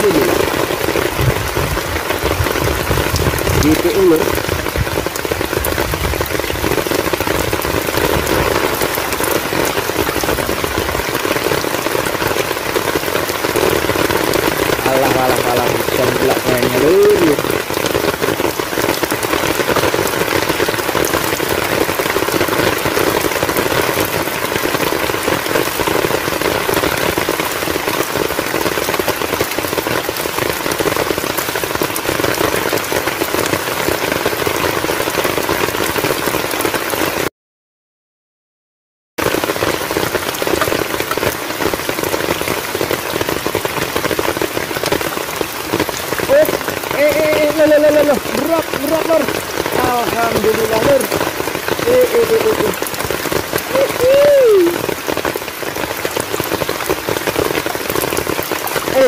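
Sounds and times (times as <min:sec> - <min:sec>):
heavy rain on river: 0:00.0 - 0:37.3, 0:39.2 - 0:59.0.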